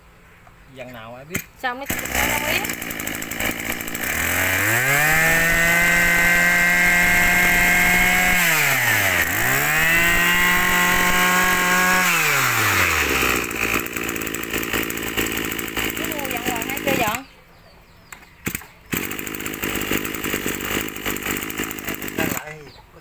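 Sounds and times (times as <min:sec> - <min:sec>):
brush cutter engine revving: 0:01.4 - 0:17.3, 0:18.4 - 0:22.7.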